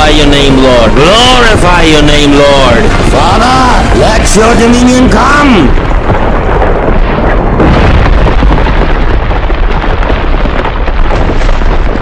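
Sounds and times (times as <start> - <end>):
deep rumble: 0.0 - 12.0
explosions: 0.0 - 12.0
sharp cracks: 0.0 - 12.0.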